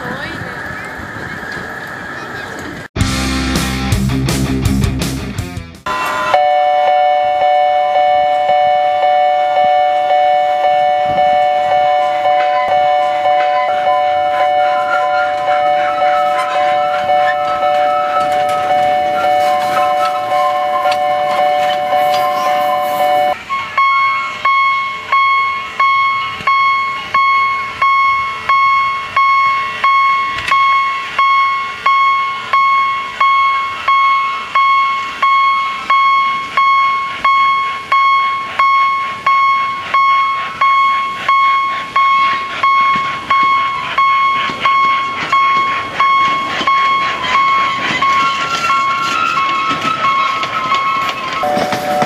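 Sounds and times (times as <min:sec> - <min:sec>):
higher bell tone: 0:05.9 - 0:46.9, 0:51.4 - 0:52.0
level-crossing warning bell: 0:05.9 - 0:52.0.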